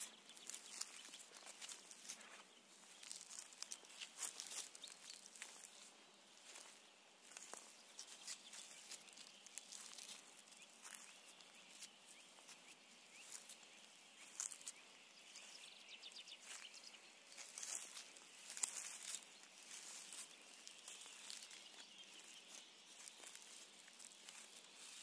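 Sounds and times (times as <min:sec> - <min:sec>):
footsteps crunching on leaves: 0:00.0 - 0:25.0.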